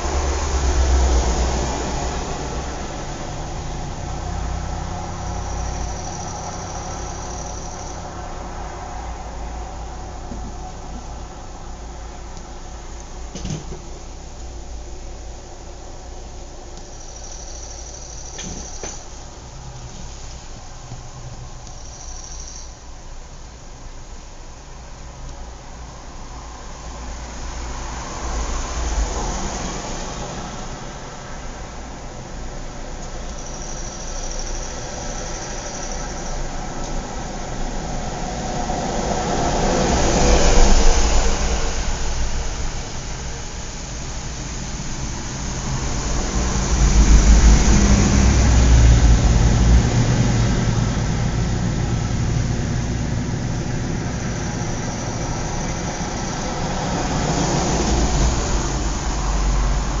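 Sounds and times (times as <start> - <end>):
approaching vehicle engine: 0.0 - 60.0
traffic hum: 0.0 - 60.0.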